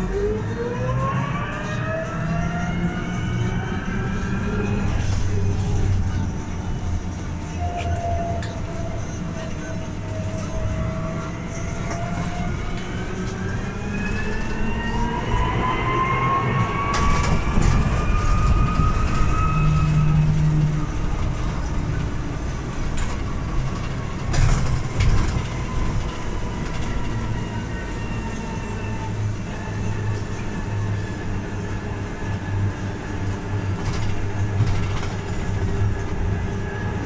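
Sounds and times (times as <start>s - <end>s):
road rumble: 0.0s - 37.0s.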